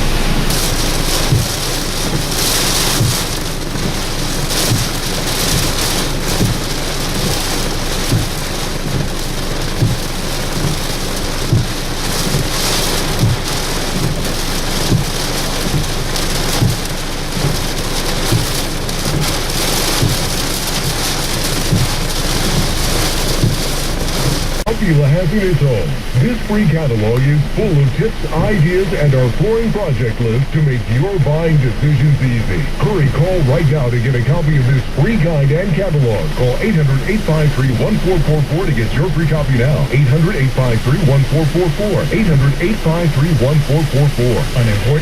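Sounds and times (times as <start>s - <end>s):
heavy wind-driven rain: 0.0s - 45.0s.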